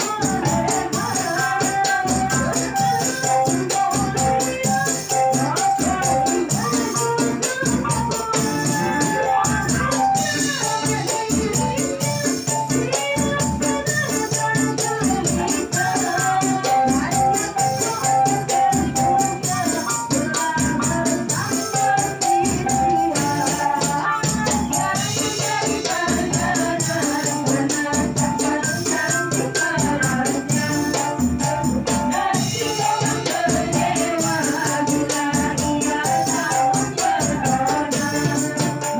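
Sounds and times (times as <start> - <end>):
electric keyboard: 0.0 - 38.9
jingling frame drum percussion: 0.0 - 38.9
women singing in unison: 0.0 - 38.9.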